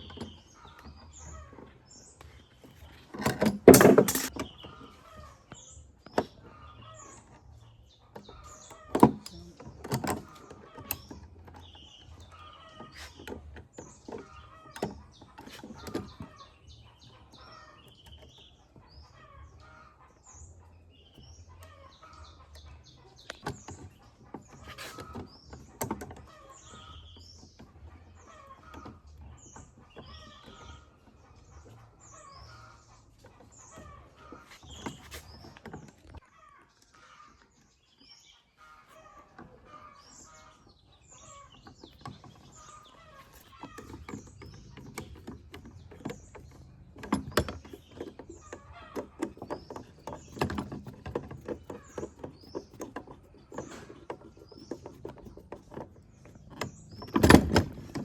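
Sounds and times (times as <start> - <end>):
handling clicks and knocks: 0.0 - 19.0, 21.1 - 36.2, 41.0 - 58.0
small birds chirping: 0.0 - 58.0.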